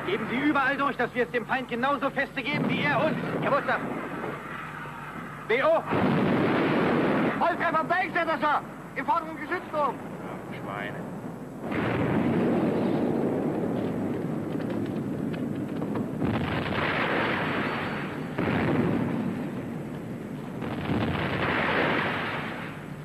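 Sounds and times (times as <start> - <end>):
explosion and fire rumble and hiss: 2.4 - 23.0.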